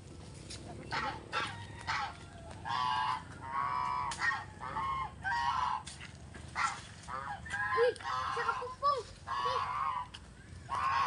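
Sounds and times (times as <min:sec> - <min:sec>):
farmyard birds calling: 0:00.0 - 0:11.0.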